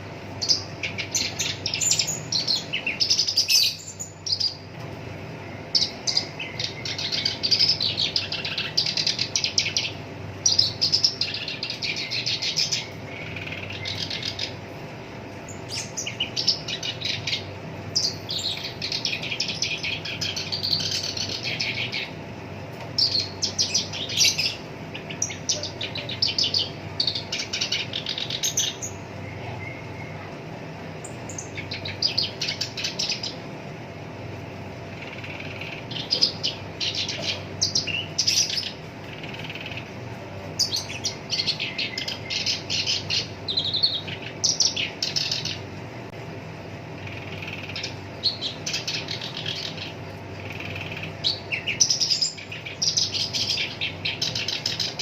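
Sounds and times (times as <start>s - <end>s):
bird singing harsh chattering: 0.0s - 4.7s, 5.4s - 14.7s, 15.3s - 30.3s, 31.0s - 33.5s, 34.6s - 45.8s, 46.9s - 55.0s
faint steady hum: 0.0s - 55.0s.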